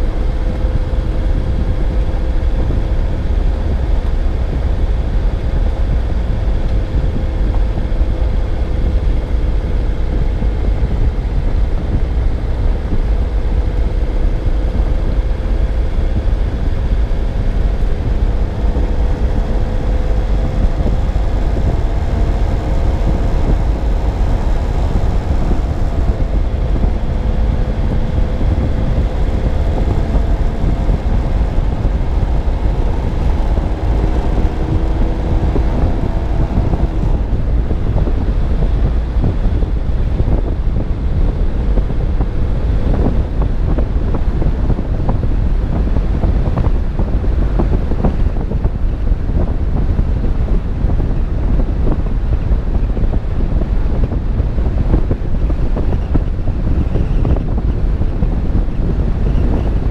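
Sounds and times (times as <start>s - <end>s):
car engine hum: 0.0s - 59.9s
wind and tyre rumble: 0.0s - 59.9s.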